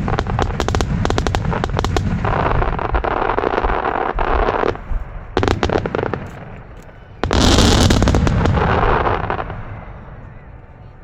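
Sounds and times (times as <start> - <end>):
fireworks bursting and crackling: 0.0 - 10.6.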